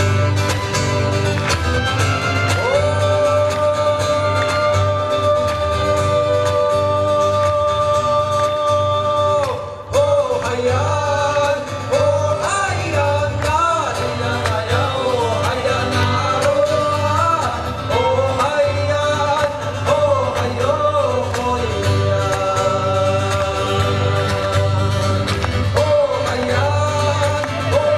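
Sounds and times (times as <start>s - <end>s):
live band music: 0.0s - 27.9s.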